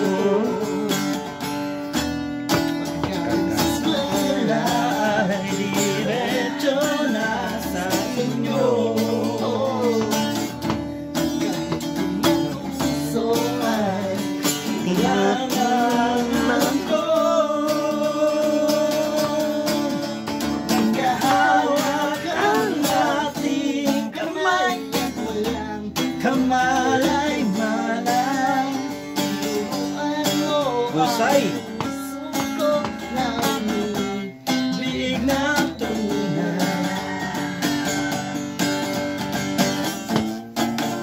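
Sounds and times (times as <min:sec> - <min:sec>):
acoustic guitar strumming: 0:00.0 - 0:41.0
person singing: 0:00.0 - 0:41.0.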